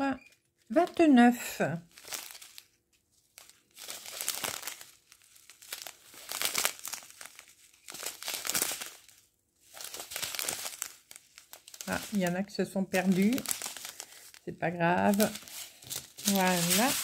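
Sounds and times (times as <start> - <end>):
plastic bags crinkling: 1.8 - 17.0.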